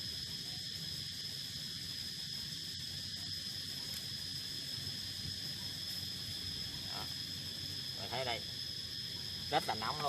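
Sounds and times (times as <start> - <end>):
high-pitched insect chirring: 0.0 - 10.0.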